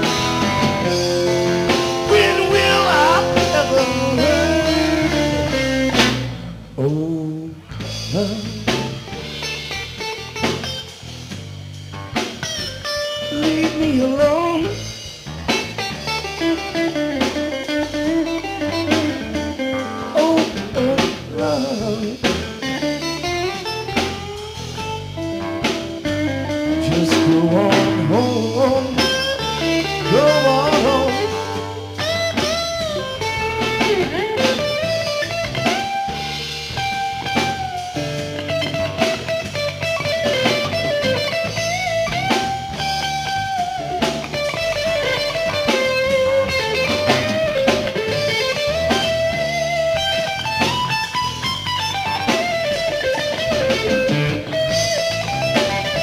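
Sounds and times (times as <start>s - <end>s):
bass guitar: 0.0s - 56.0s
drum kit: 0.0s - 56.0s
electric guitar lead: 0.0s - 56.0s.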